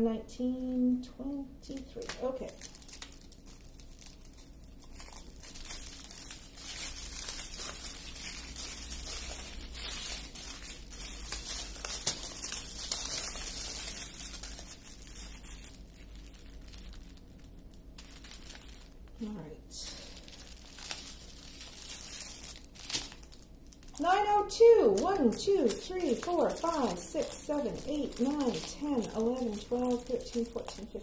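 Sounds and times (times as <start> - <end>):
plastic bags crinkling: 1.7 - 31.0.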